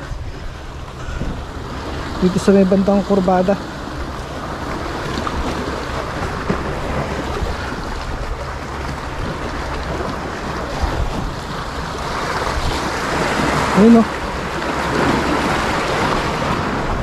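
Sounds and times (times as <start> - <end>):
sea surf: 0.0 - 17.0
wind buffeting microphone: 0.0 - 17.0.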